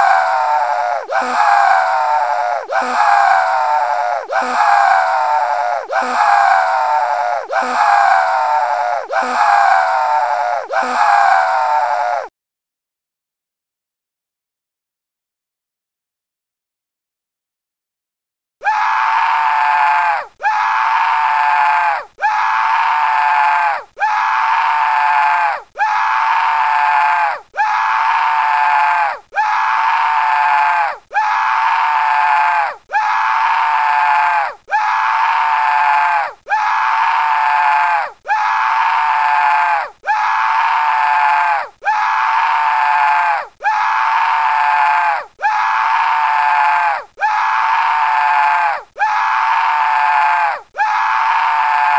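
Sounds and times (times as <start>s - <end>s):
cartoon scream: 0.0s - 12.3s, 18.6s - 51.9s.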